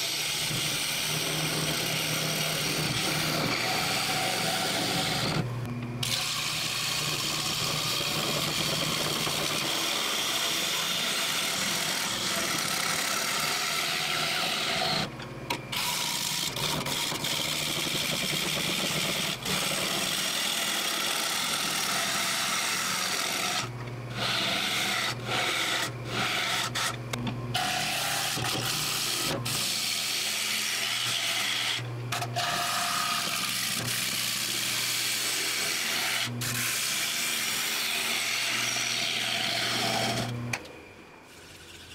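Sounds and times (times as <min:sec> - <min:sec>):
gouge cutting wood on lathe: 0:00.0 - 0:15.1, 0:15.7 - 0:27.0, 0:27.6 - 0:40.3
lathe motor hum: 0:00.0 - 0:41.9.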